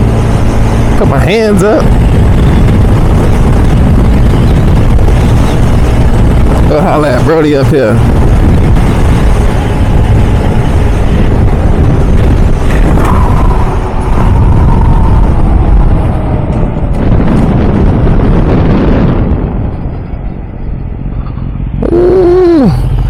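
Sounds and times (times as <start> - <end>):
motorcycle engine: 0.0 - 23.0
wind buffeting on microphone: 0.0 - 23.0.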